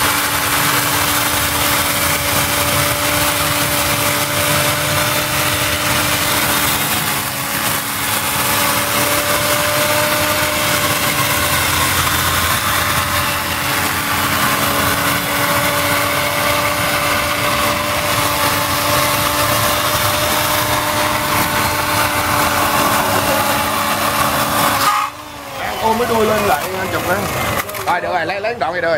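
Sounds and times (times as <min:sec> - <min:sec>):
electric chainsaw motor hum: 0:00.0 - 0:28.9.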